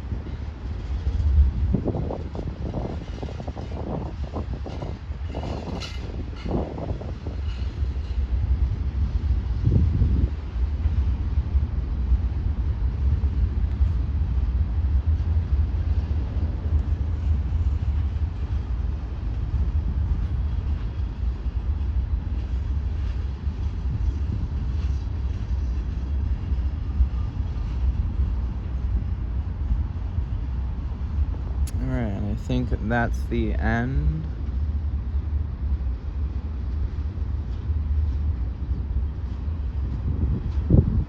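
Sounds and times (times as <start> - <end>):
freight train cars rumbling past: 0.0 - 41.0.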